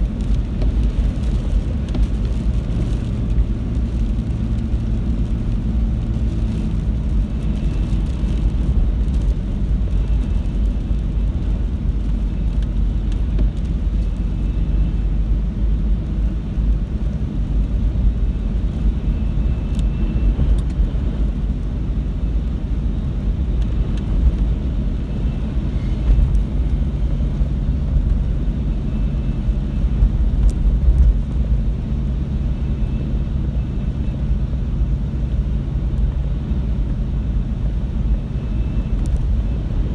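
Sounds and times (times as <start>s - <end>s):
car engine hum: 0.0s - 39.9s
road noise: 0.0s - 39.9s.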